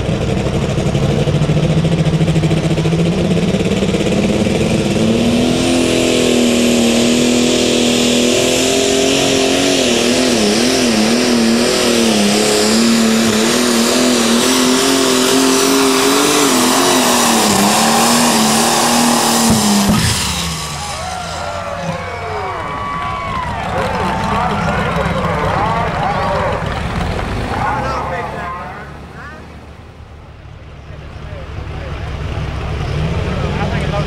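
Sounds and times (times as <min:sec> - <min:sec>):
pulling tractor engine revving: 0:00.0 - 0:34.0.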